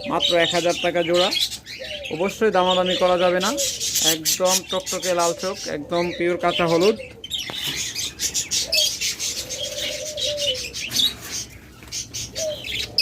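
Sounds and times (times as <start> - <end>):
budgerigars chirping: 0.0 - 13.0
dove cooing: 0.0 - 13.0.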